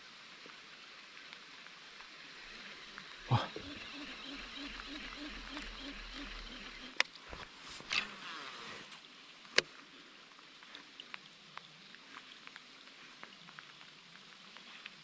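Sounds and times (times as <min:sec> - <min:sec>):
light rain hissing: 0:00.0 - 0:15.0.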